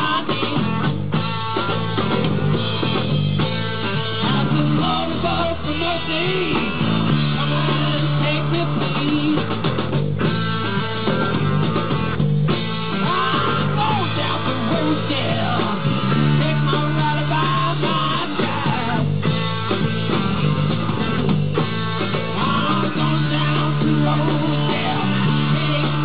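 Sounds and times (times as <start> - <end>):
electric bass low notes: 0.0 - 26.0
live rock band playing: 0.0 - 26.0.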